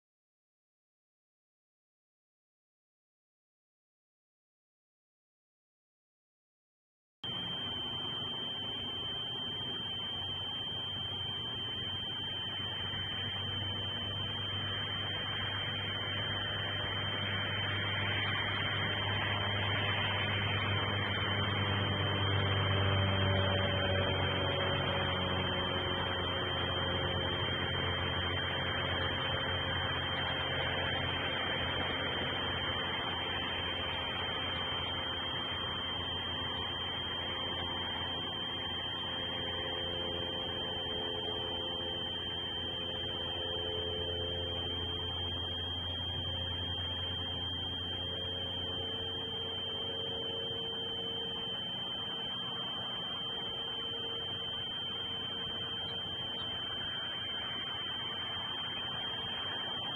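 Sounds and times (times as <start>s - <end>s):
thin high whine: 7.2s - 59.9s.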